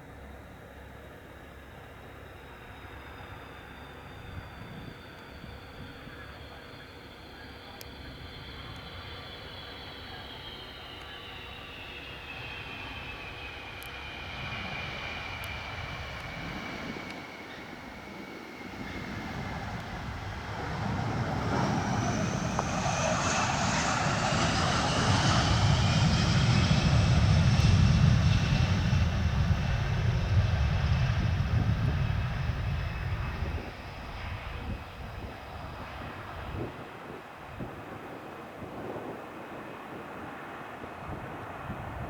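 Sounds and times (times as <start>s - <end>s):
high jet engine whine: 0.0s - 42.0s
jet engine rumble: 0.0s - 42.0s.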